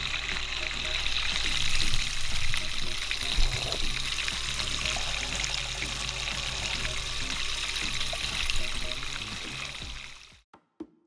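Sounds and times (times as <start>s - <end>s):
water churning in a glass beaker: 0.0s - 9.1s
stirrer motor running: 0.0s - 10.4s.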